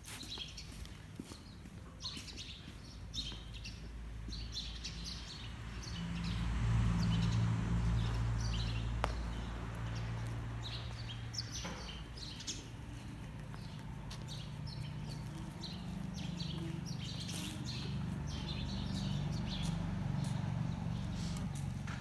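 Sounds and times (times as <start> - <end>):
small birds chirping: 0.1 - 21.9.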